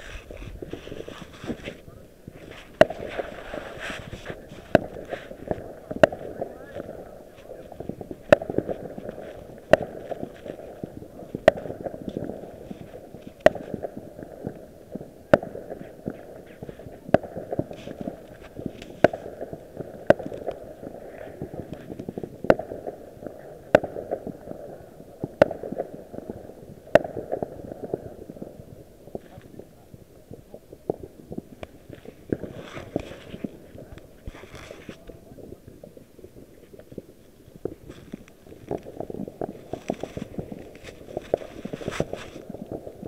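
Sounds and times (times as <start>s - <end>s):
firework bangs: 0.0s - 43.0s
fireworks crackling: 0.0s - 43.0s.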